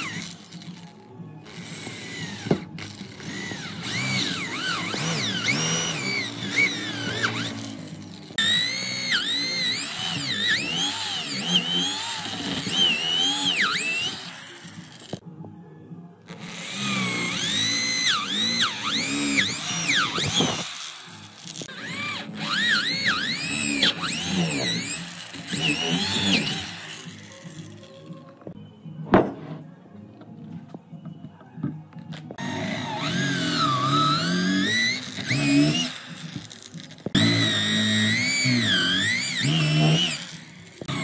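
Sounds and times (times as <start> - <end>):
power tool whining: 0.0 - 15.2, 16.2 - 28.6, 31.6 - 41.0.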